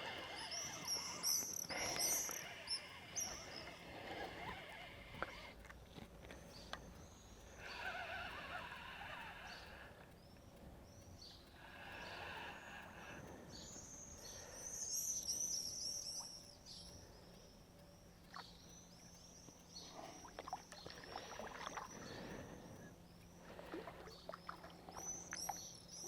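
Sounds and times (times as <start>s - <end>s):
small birds twittering: 0.0s - 26.0s.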